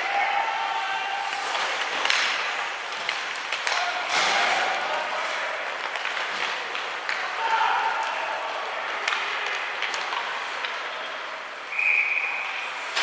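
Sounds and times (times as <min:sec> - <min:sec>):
spectators' voices: 0:00.0 - 0:13.0.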